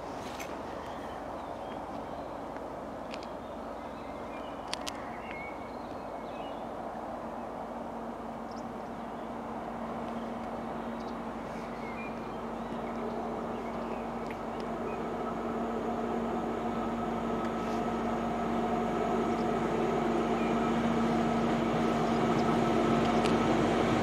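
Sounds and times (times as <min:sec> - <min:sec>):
background rumble: 0:00.0 - 0:24.0
train hum: 0:00.0 - 0:24.0.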